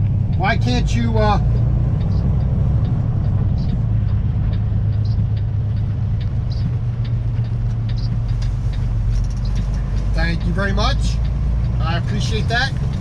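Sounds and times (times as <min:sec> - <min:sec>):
light ticks and rattles: 0:00.0 - 0:13.0
truck diesel engine drone: 0:00.0 - 0:13.0.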